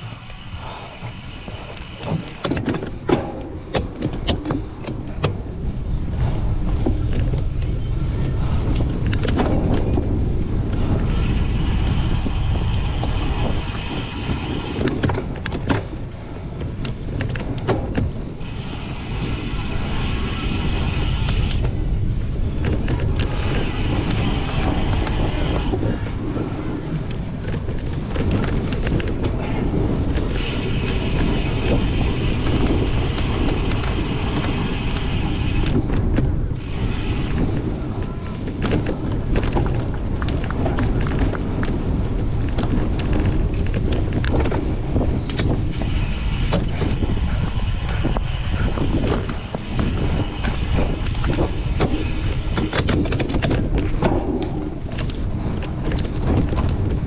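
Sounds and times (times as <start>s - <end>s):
bike rattling and clicking: 0.0s - 57.0s
wind rush: 0.0s - 57.0s.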